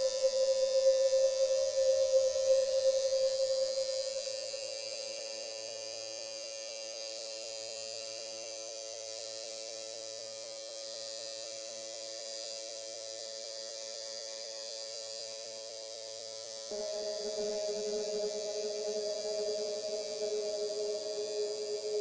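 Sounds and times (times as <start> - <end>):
buzzing meditation drone: 0.0 - 22.0.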